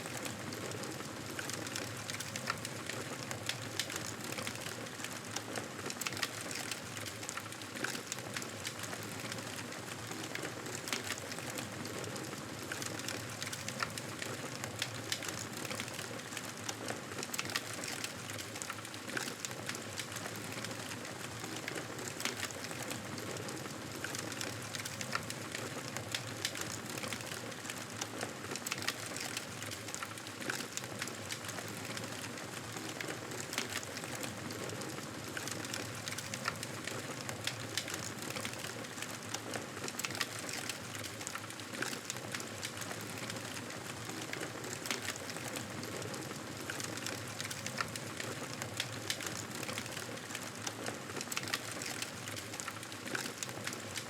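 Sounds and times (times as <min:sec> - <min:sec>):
wood fire crackling: 0:00.1 - 0:54.0.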